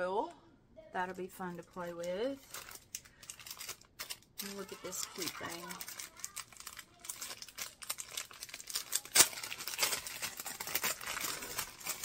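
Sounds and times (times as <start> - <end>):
plastic bag crinkling: 1.4 - 12.0.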